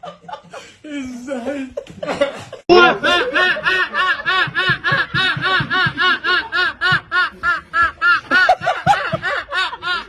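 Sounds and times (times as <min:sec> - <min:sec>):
high-pitched rhythmic laughter: 0:00.0 - 0:10.0.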